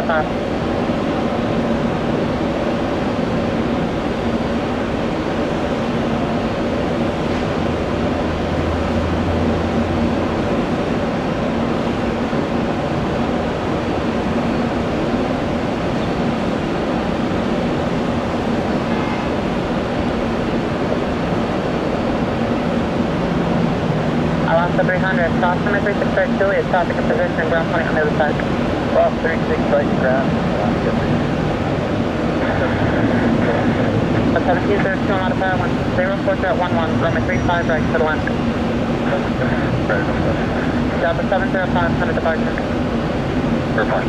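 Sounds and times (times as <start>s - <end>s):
jet airliner engine drone: 0.0s - 44.0s.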